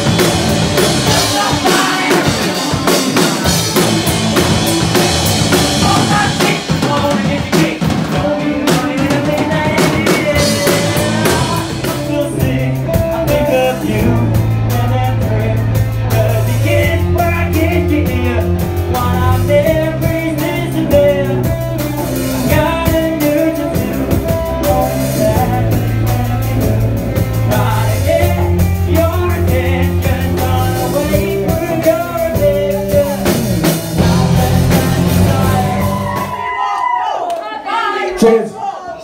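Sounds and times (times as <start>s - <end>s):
low bass notes: 0.0s - 36.3s
person singing: 0.0s - 36.5s
live rock band playing: 0.0s - 36.6s.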